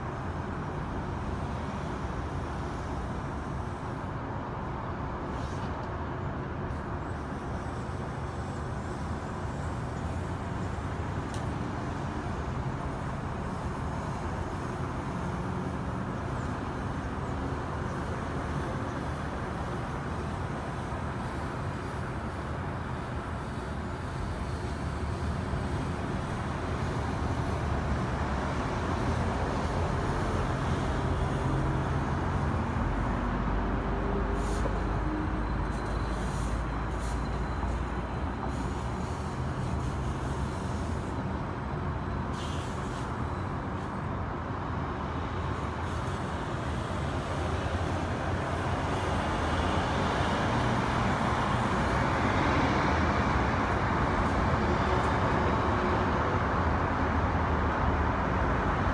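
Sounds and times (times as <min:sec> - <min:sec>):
distant city traffic hum: 0:00.0 - 0:58.9.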